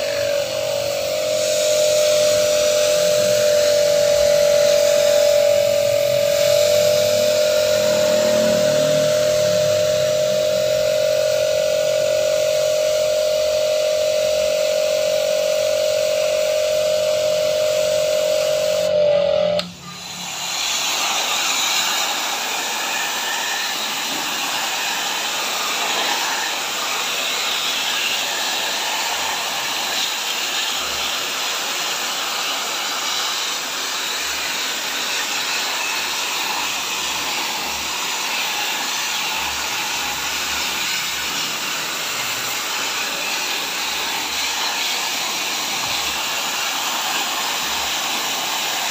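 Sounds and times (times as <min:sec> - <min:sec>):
water jet hissing: 0:00.0 - 0:19.0, 0:19.6 - 0:48.9
pressure washer whine: 0:00.0 - 0:48.9.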